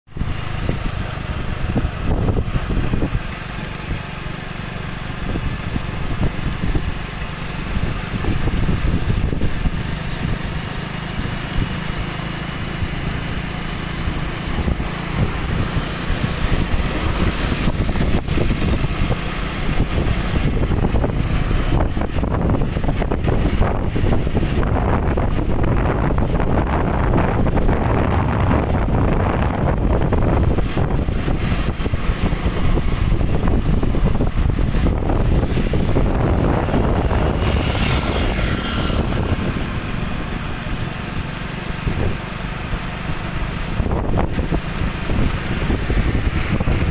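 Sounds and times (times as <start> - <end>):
motor vehicles rumbling: 0.0 - 46.9.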